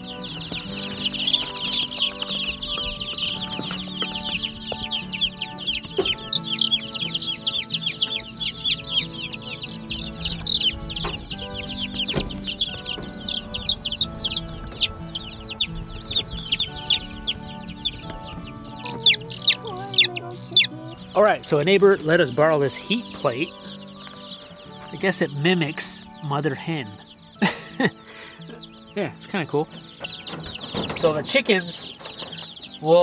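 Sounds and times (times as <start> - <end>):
background music with held notes: 0.0 - 33.0
chicks peeping: 0.0 - 33.0.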